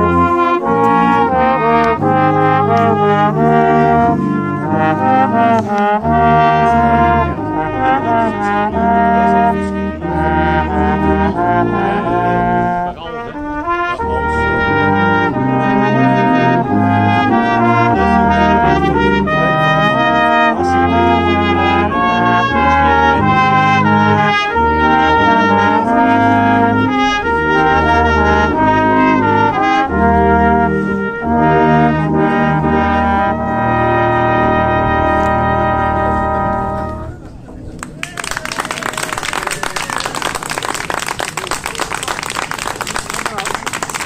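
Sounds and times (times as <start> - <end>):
brass ensemble playing: 0.0 - 37.2, 38.0 - 44.0.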